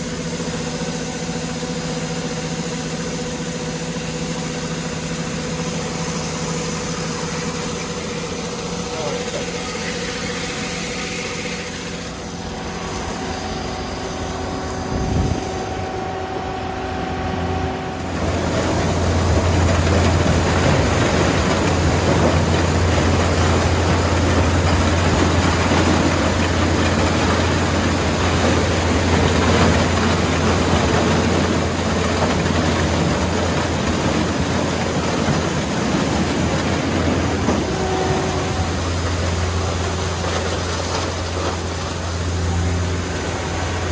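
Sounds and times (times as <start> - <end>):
harvester engine running: 0.0 - 43.9.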